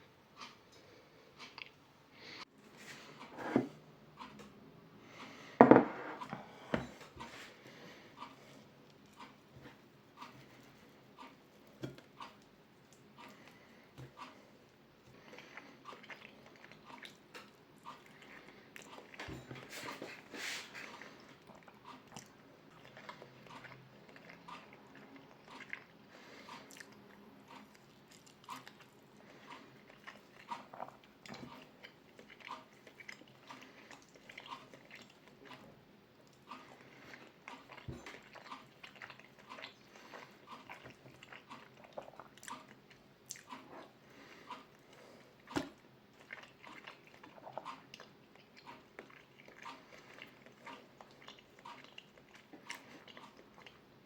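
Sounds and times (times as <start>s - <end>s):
person chewing food: 0.0s - 2.4s, 3.0s - 54.0s.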